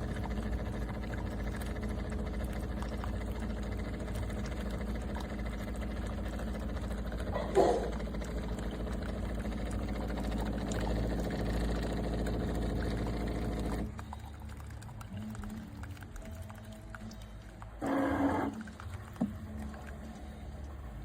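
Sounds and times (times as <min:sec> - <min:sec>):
coffee maker pump humming: 0:00.0 - 0:21.0.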